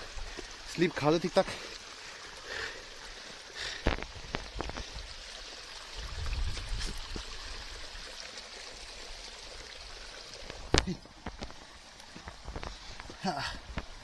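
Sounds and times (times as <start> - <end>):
flowing stream: 0.0 - 14.0.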